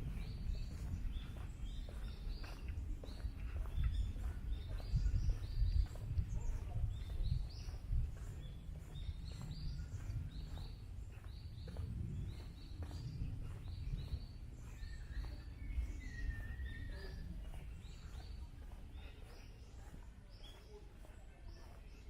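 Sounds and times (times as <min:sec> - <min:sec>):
steady low rumble: 0:00.0 - 0:21.9
footsteps on a trail: 0:00.0 - 0:22.0
small birds chirping: 0:00.0 - 0:22.0.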